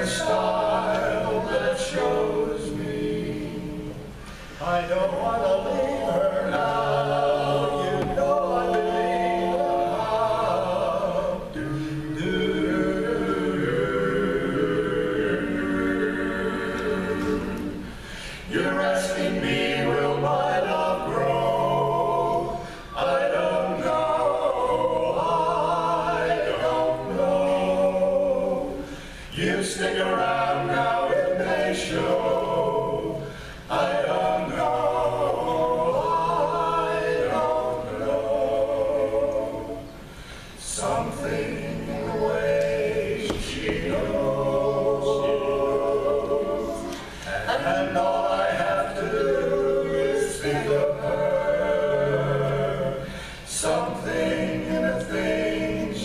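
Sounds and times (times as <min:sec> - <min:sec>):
male vocal quartet singing: 0:00.0 - 0:56.0.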